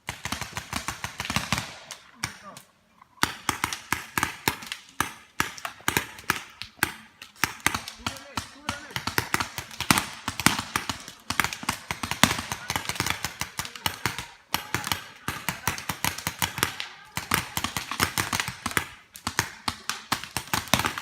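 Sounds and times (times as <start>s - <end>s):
paintball markers firing: 0.0s - 21.0s.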